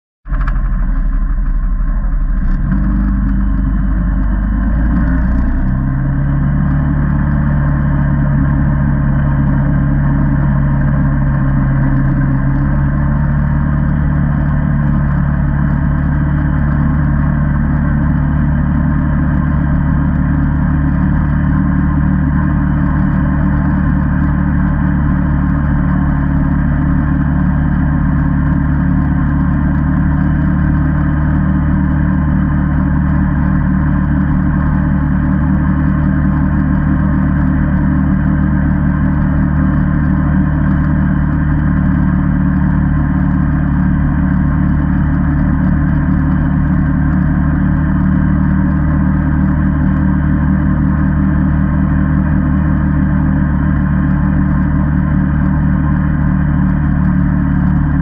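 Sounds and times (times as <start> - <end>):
atv engine running: 0.3 - 58.0.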